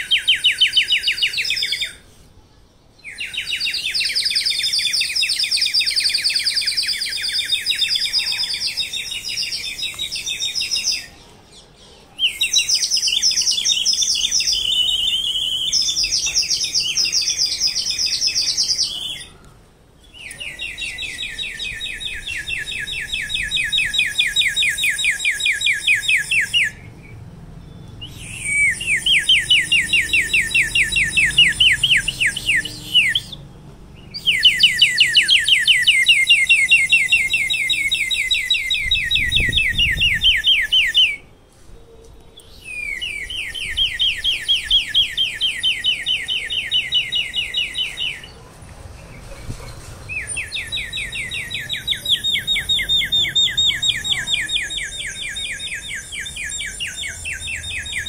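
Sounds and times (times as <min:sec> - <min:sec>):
songbird trilling: 0:00.0 - 0:02.0, 0:03.0 - 0:41.3, 0:42.4 - 0:48.4, 0:50.1 - 0:58.0.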